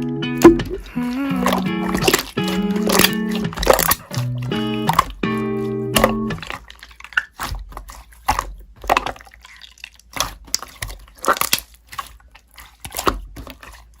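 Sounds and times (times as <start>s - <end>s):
crunchy slime crackling: 0.7s - 14.0s.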